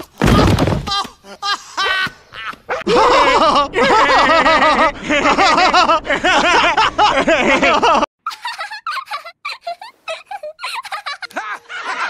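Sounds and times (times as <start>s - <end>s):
man and child laughing: 0.9s - 12.0s.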